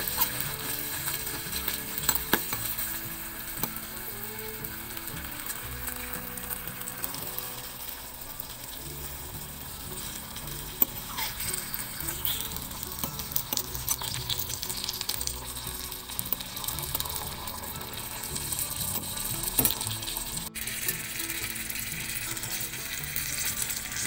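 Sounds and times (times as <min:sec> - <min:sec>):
food sizzling in oil: 0:00.0 - 0:24.0
metal utensil clinking and scraping: 0:00.0 - 0:24.0.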